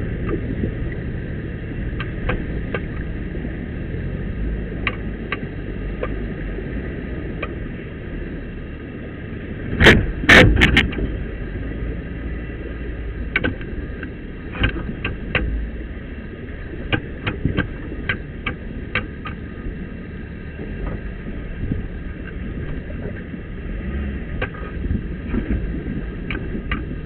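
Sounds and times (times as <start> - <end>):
vehicle engine running low: 0.0 - 27.0.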